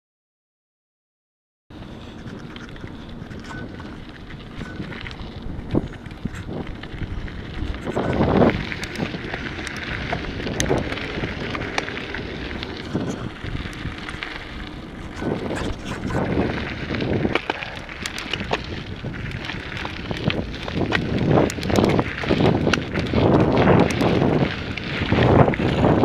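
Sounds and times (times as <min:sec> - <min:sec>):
bike clicks and rattles: 0:01.7 - 0:26.0
wind gusting on microphone: 0:01.7 - 0:26.0
tyres crunching on gravel: 0:02.2 - 0:26.0.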